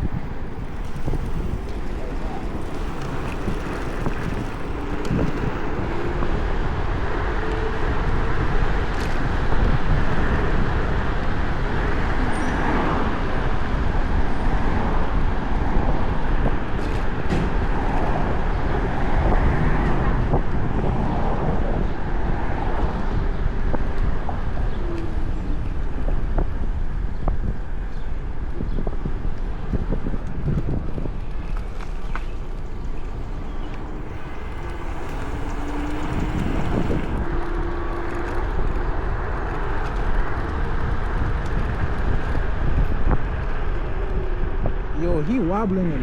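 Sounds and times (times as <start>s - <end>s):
road traffic noise: 0.0s - 46.0s
wind rumble on microphone: 0.0s - 46.0s.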